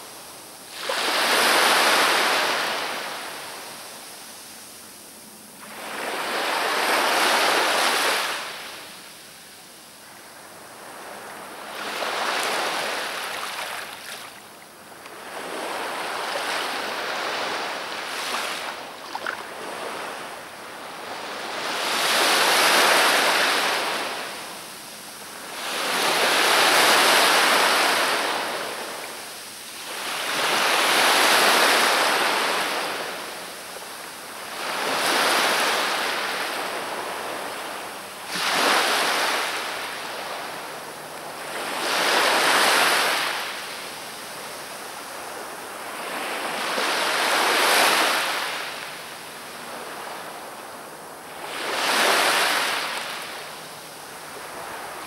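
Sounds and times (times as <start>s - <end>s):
waves breaking on shore: 0.0s - 3.8s, 5.6s - 9.1s, 10.6s - 55.0s.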